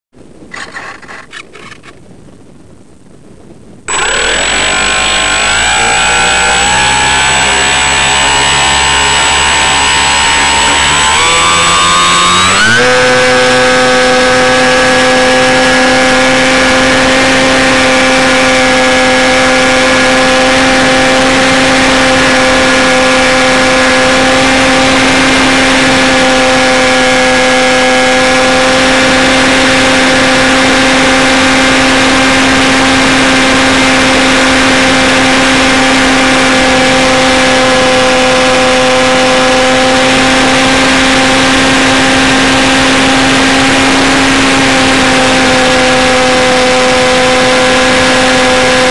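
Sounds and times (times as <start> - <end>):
model plane motor and propeller: 3.9 - 48.9.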